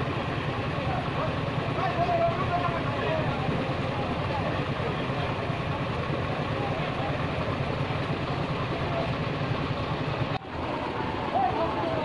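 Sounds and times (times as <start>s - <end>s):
low engine-like hum: 0.0s - 12.0s
faint background voices: 0.2s - 12.0s.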